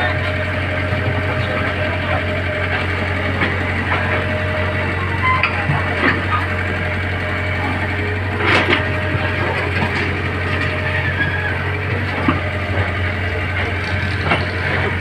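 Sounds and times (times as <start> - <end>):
large engine droning: 0.0 - 15.0
knocks and clanks: 0.8 - 6.8, 7.5 - 15.0.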